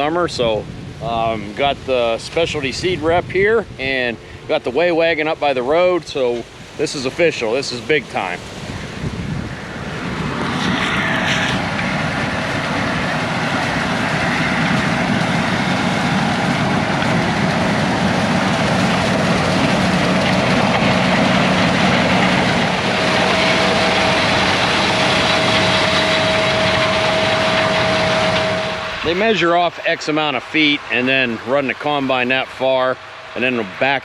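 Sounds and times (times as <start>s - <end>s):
combine harvester running: 3.7s - 34.0s.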